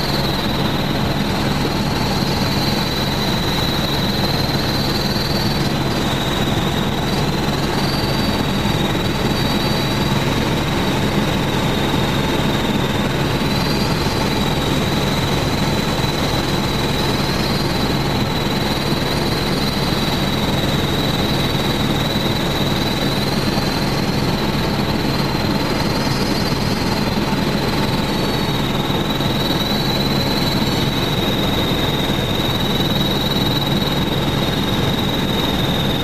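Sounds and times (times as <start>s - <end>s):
helicopter engine and rotor: 0.0s - 36.0s
high whine: 0.0s - 36.0s.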